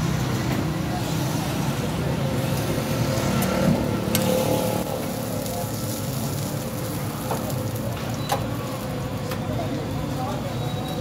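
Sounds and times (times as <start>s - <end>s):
road traffic: 0.0s - 11.0s
street food stall noise: 0.0s - 11.0s.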